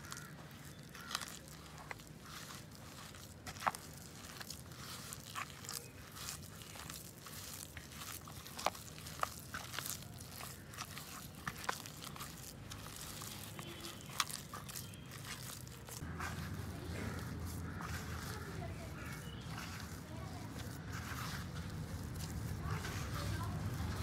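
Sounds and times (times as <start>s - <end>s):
mashed potato squishing: 0.0s - 24.0s.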